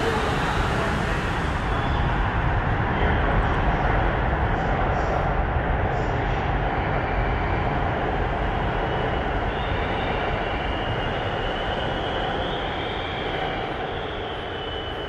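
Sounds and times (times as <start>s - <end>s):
electric train rumbling: 0.0s - 15.0s
high whine: 0.0s - 15.0s.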